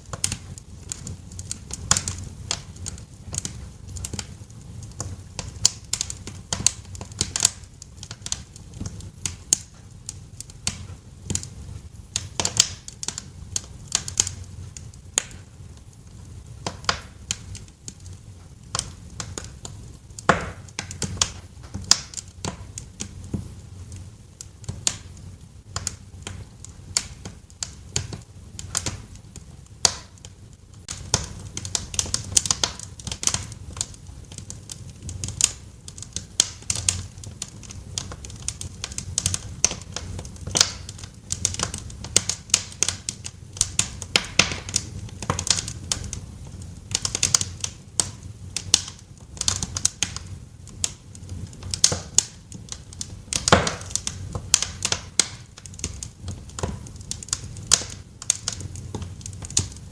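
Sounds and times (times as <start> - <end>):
flames rumbling: 0.0 - 59.9
wood fire crackling: 0.0 - 59.9.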